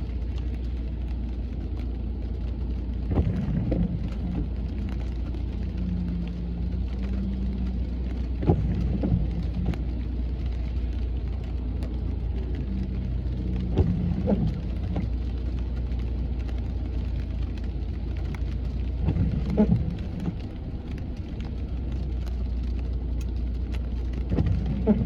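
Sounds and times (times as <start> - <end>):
car driving rumble: 0.0 - 25.0
rain: 0.0 - 25.0.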